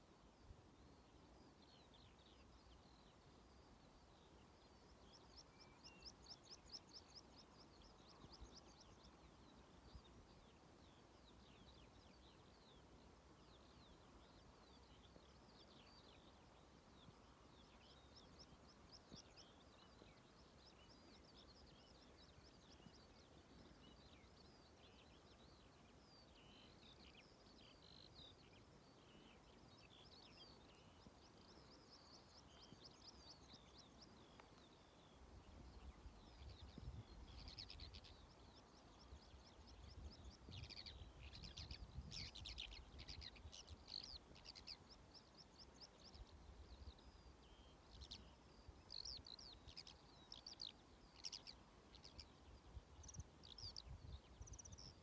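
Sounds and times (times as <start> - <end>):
faint birdsong: 0.0 - 55.0.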